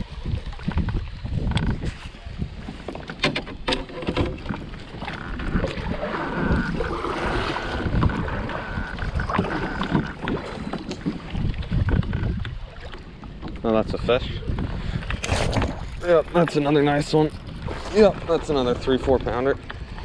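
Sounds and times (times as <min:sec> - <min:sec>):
water lapping against kayak hull: 0:00.0 - 0:20.0
wind buffeting microphone: 0:00.0 - 0:20.0.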